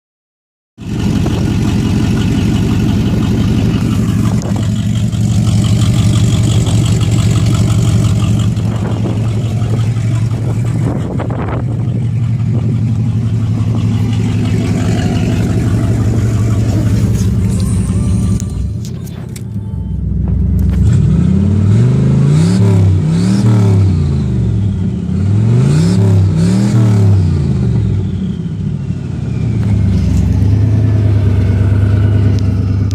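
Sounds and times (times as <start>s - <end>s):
car engine running steadily: 0.8s - 32.9s.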